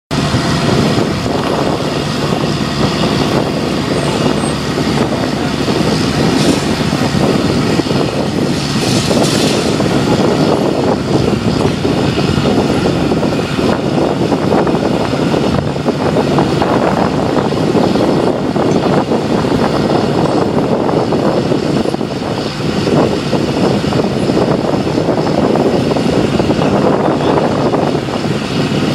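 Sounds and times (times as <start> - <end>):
diesel engine running: 0.1 - 28.9.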